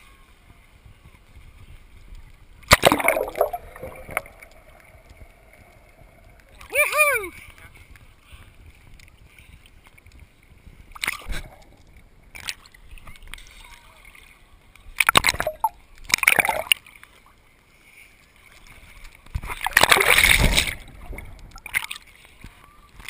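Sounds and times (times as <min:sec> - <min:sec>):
low water noise: 0:00.0 - 0:23.0
water splashing and sloshing: 0:01.1 - 0:23.0.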